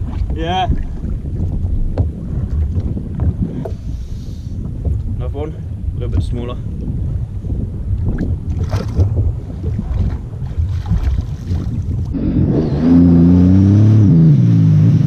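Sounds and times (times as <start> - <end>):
wind and water noise: 0.0 - 15.0.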